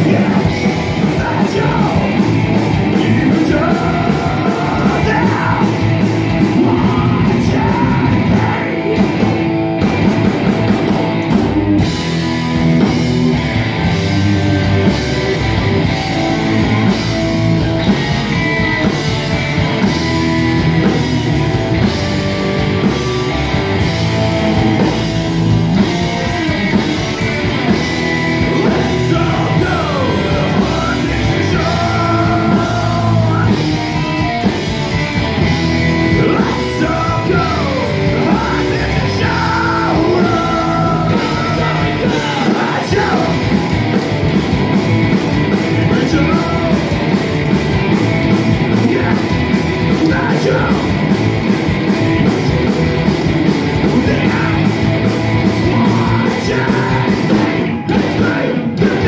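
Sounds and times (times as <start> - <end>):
rockabilly band playing: 0.0 - 59.0.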